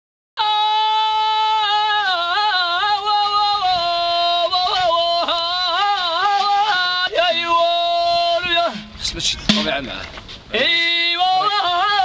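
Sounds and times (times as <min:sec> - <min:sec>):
man singing a high wail: 0:00.4 - 0:08.8, 0:10.6 - 0:12.0.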